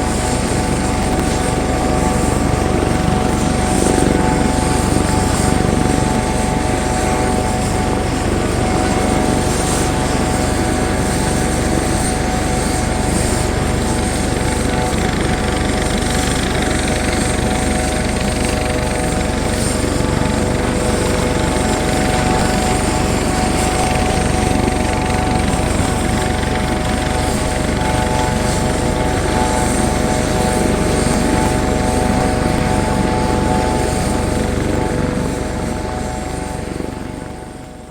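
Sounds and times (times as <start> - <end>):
helicopter rotor rumble: 0.0 - 37.9
helicopter turbine whine: 0.0 - 37.9.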